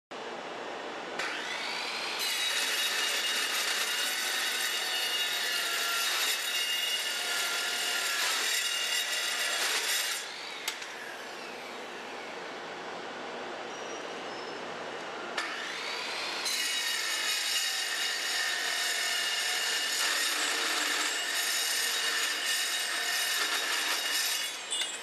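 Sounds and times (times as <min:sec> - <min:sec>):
circular saw cutting metal bars: 0:01.2 - 0:12.0, 0:15.4 - 0:25.0.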